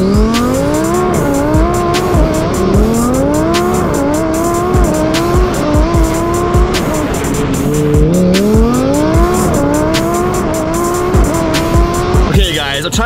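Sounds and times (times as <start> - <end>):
background music with thumping beat: 0.0 - 13.0
sports car engine accelerating: 0.0 - 13.0.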